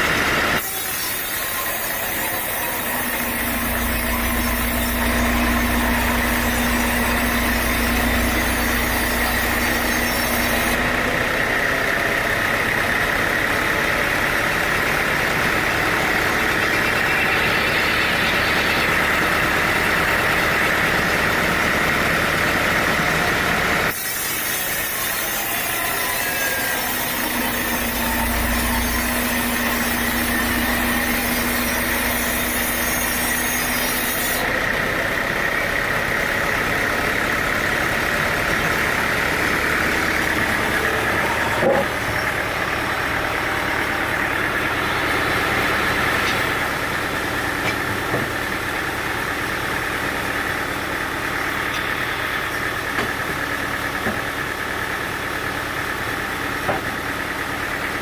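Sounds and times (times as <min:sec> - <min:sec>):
sawmill machinery droning: 0:00.0 - 0:58.0.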